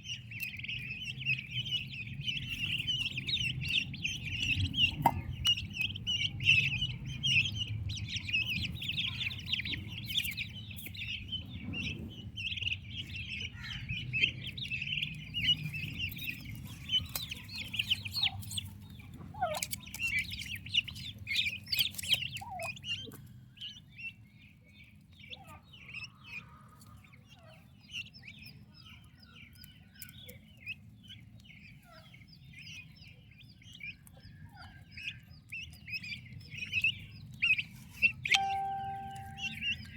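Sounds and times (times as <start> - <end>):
turkey poults peeping: 0.0 - 39.9.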